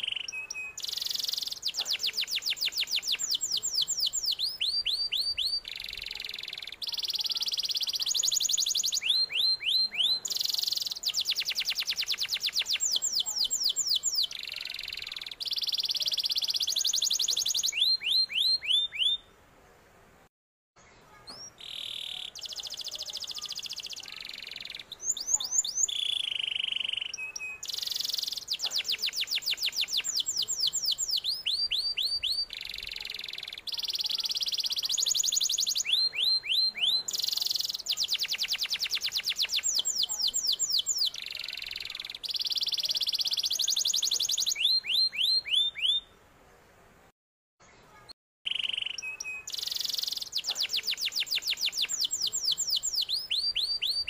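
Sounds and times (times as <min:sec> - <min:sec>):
canary singing: 0:00.0 - 0:19.3, 0:21.3 - 0:46.1, 0:48.4 - 0:54.0.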